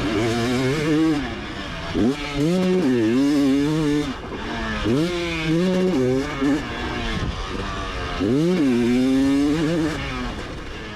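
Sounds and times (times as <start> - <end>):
motocross bike engine revving: 0.0 - 10.9.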